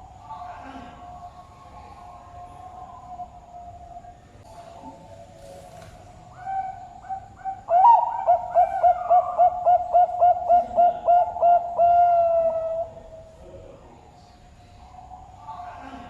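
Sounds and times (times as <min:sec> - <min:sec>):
dove cooing: 0:00.0 - 0:13.3.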